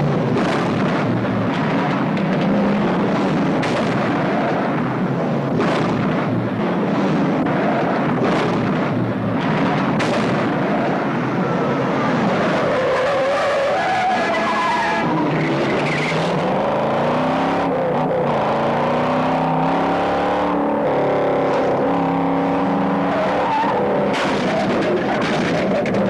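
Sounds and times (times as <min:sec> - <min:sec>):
cars at full throttle: 0:00.0 - 0:26.0
tires squealing: 0:00.0 - 0:26.0.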